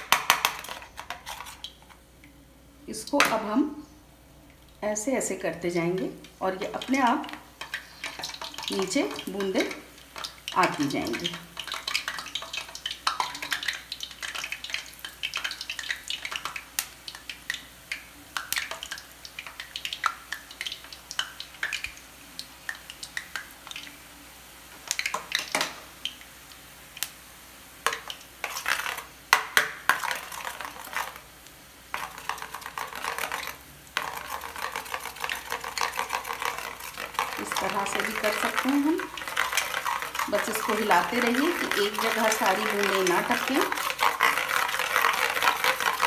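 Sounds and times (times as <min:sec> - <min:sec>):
batter sizzling in hot oil: 0:04.5 - 0:46.0.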